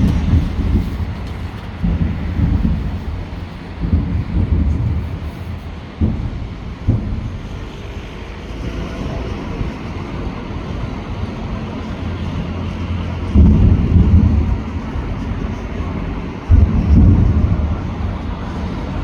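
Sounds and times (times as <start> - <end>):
firework booms: 0.0 - 19.0
low rumble of fireworks: 0.0 - 19.0.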